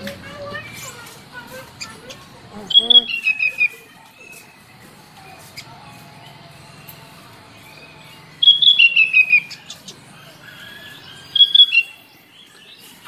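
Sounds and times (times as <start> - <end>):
bird singing: 0.0 - 13.0.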